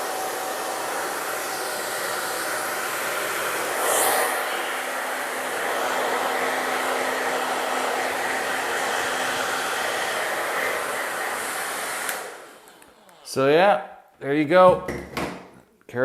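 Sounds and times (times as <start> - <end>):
hair dryer blowing: 0.0 - 13.7.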